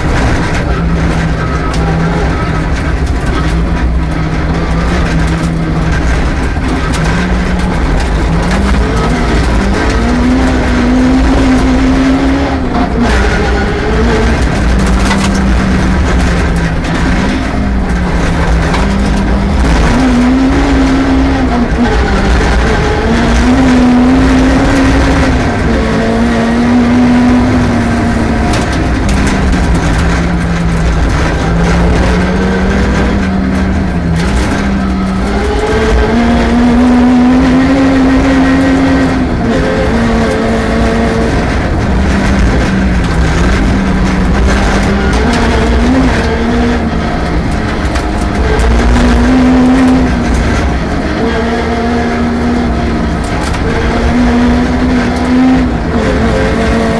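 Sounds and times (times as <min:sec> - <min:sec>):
rally car engine revving: 0:00.0 - 0:56.9
road noise: 0:00.0 - 0:56.9.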